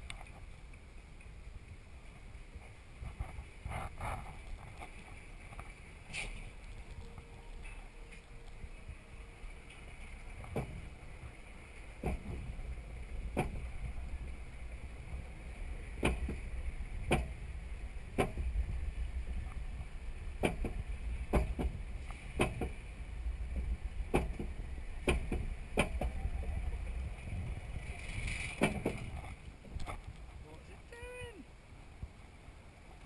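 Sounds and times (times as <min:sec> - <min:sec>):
roller coaster lift rumble: 0:00.0 - 0:33.0.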